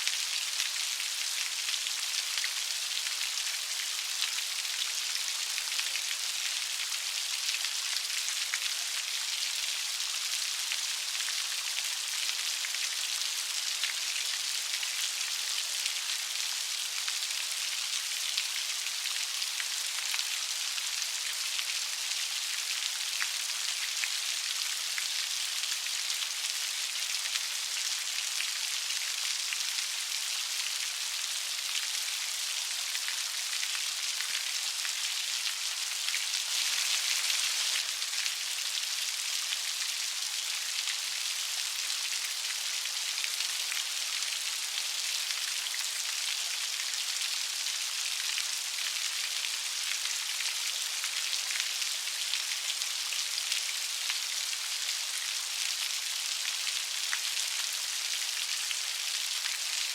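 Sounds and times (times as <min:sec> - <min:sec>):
light rain falling: 0:00.0 - 0:59.9.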